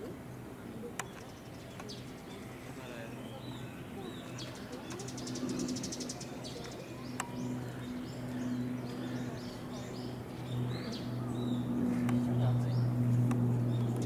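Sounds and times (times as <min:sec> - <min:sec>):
small birds chirping: 0:00.2 - 0:14.0
low hum: 0:01.9 - 0:14.0.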